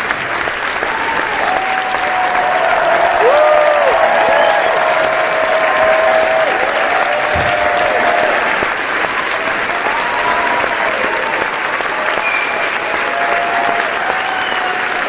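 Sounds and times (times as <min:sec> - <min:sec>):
crowd applause: 0:00.0 - 0:15.0.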